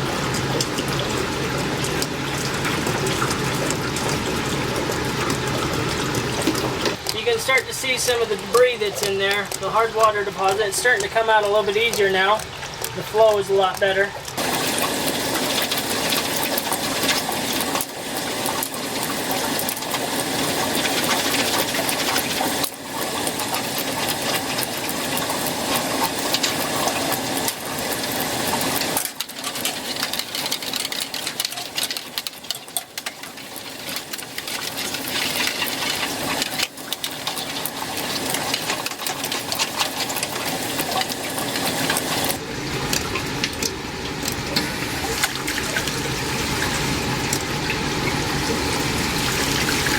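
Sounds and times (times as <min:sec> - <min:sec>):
sputtering rattling patter: 0:00.0 - 0:49.9
water gushing from drain: 0:00.0 - 0:49.9.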